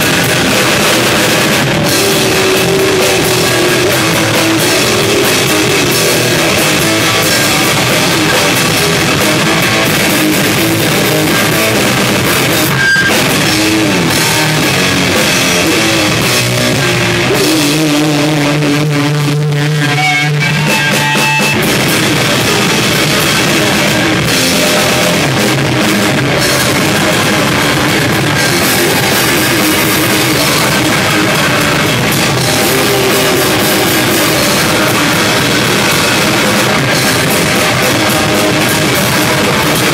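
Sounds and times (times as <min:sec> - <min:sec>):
distorted electric guitar: 0:00.0 - 0:39.9
drum kit with cymbals: 0:00.0 - 0:39.9.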